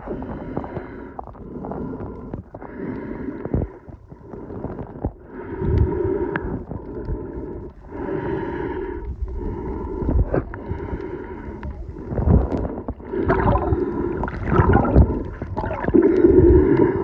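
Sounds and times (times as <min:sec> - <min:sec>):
muffled water sloshing underwater: 0:00.0 - 0:17.0.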